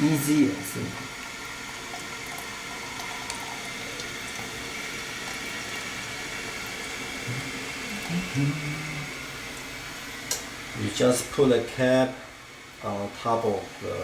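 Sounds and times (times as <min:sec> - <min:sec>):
toilet cistern refilling: 0:00.0 - 0:14.0.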